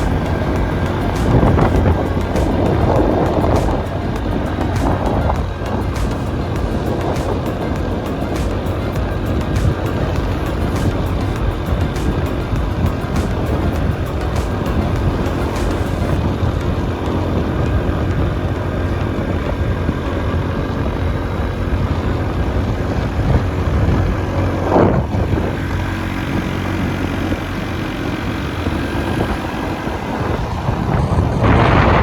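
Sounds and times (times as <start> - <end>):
motorbike engine running: 0.0 - 32.0
wind-like noise: 0.0 - 32.0.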